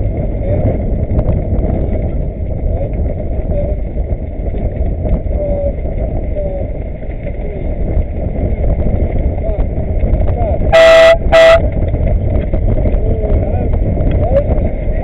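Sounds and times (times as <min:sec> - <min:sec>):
water rushing past hull: 0:00.0 - 0:15.0
wind buffeting microphone: 0:00.0 - 0:15.0.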